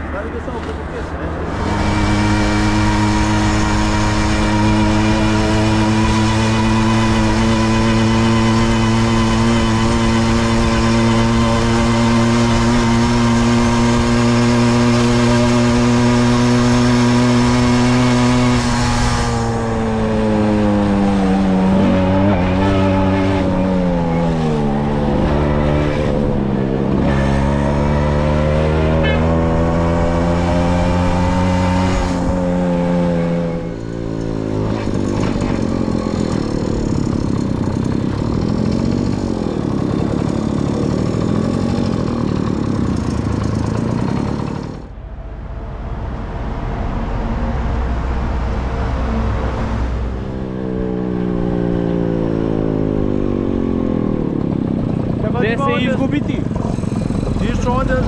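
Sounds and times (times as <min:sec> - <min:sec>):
moped engine running: 0:00.0 - 0:45.3, 0:48.0 - 0:58.0.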